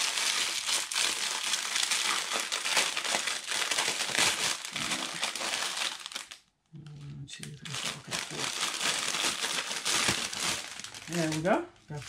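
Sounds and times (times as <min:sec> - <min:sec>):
plastic packets crinkling: 0:00.0 - 0:06.5, 0:07.4 - 0:12.0.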